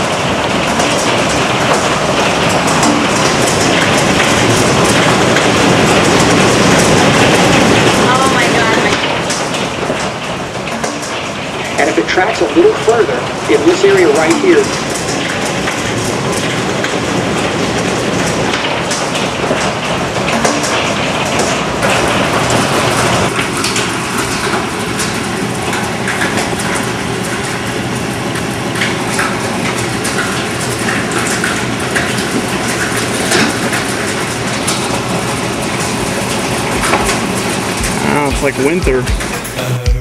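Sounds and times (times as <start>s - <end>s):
hail clattering on house and glass: 0.0s - 39.0s
rain: 0.0s - 39.0s.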